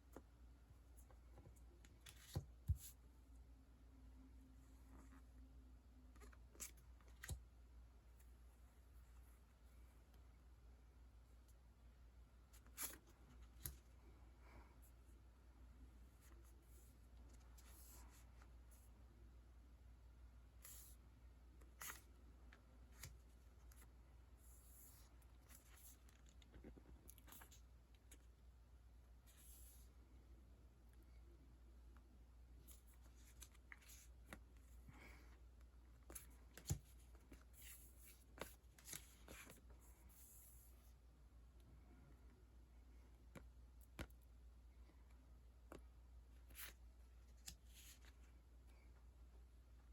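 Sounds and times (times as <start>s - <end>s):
room hum: 0.0s - 49.9s.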